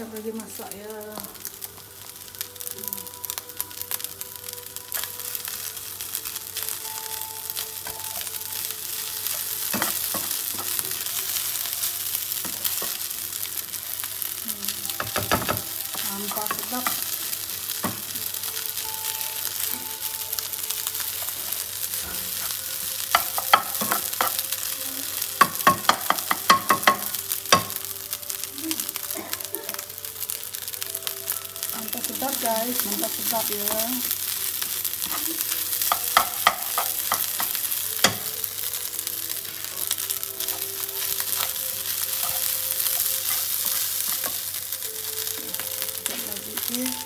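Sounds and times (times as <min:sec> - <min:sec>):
rice sizzling in a pan: 0:00.0 - 0:47.0.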